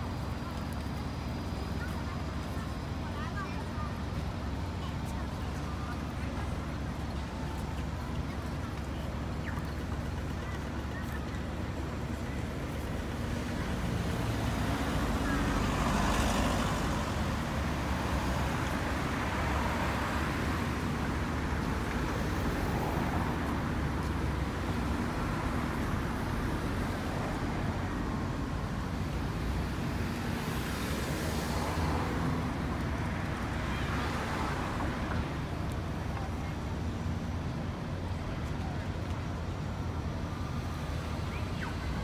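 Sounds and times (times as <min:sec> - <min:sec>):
road traffic noise: 0:00.0 - 0:42.0
vehicles passing close: 0:00.0 - 0:42.0.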